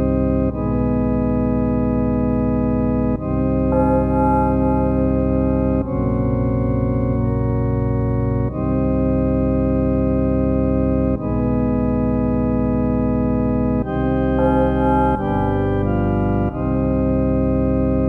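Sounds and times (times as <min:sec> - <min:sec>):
sustained organ chords: 0:00.0 - 0:18.0.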